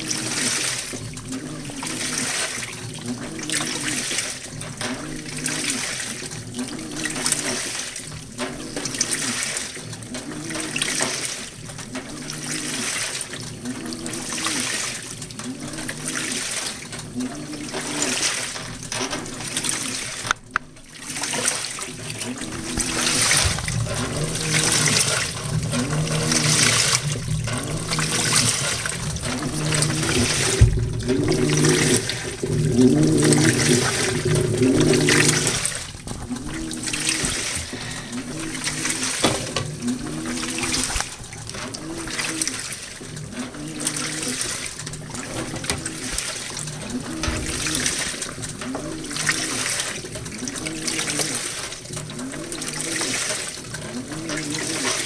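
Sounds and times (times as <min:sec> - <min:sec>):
washer motor hum: 0:00.0 - 0:55.0
water sloshing in washer: 0:00.0 - 0:55.0.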